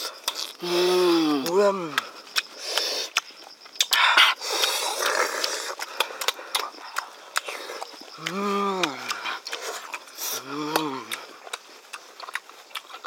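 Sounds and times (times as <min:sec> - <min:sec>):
person chewing noisily: 0:00.0 - 0:13.0.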